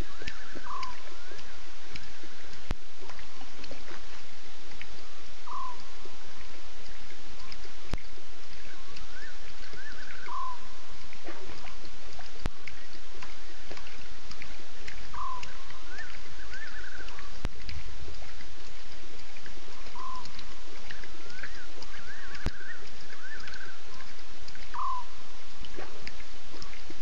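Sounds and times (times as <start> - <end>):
bird calling: 0.0 - 4.0, 4.7 - 18.4, 19.2 - 27.0
steady hiss: 0.0 - 27.0.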